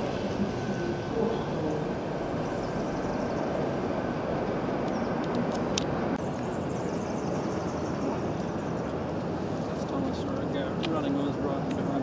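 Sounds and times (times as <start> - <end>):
distant electric train rumble: 0.0 - 12.0.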